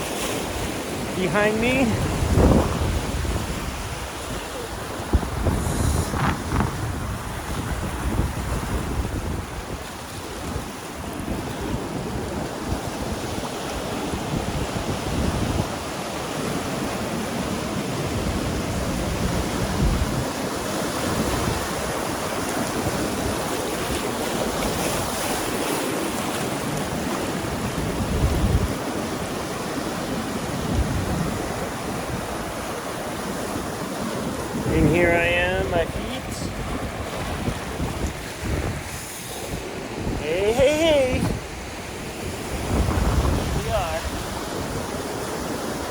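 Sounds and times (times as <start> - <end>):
ocean waves washing over rocks: 0.0 - 45.9
wind buffeting microphone: 0.0 - 45.9.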